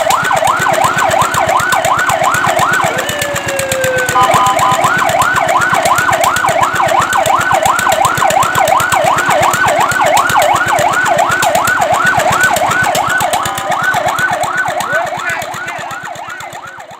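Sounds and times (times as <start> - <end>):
fire truck siren yelping: 0.0 - 16.9.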